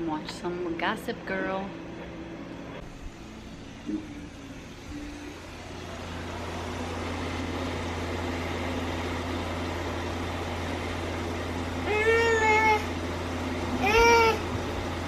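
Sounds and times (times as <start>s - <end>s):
appliance motor humming: 0.8s - 15.0s.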